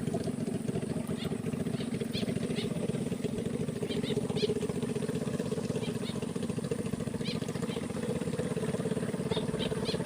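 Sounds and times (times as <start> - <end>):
small engine pulsing: 0.0 - 10.0.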